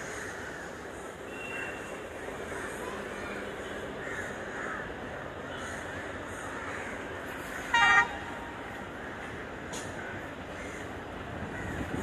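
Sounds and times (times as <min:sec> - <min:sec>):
crows cawing: 0:00.0 - 0:01.0, 0:01.6 - 0:11.9
city noise hum: 0:00.0 - 0:12.0.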